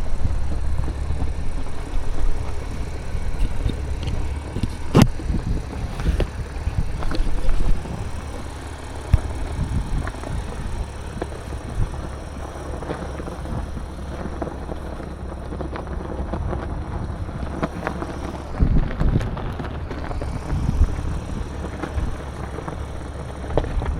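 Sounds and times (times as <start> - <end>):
car engine running: 0.0 - 23.9
tyre and road noise: 0.0 - 23.9.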